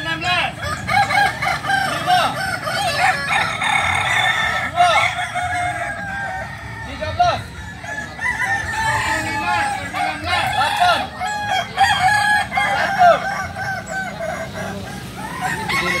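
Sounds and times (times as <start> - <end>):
roosters crowing: 0.0 - 16.0.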